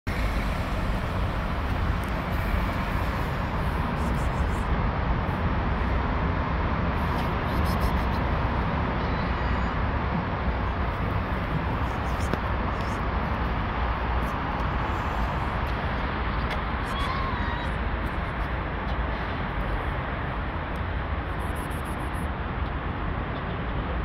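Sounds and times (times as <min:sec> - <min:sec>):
low outdoor rumble: 0:00.1 - 0:24.0.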